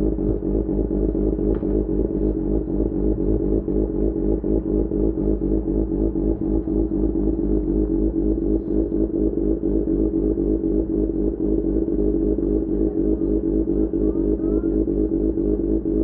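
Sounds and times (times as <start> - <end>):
motorcycle engine droning steadily: 0.0 - 16.0.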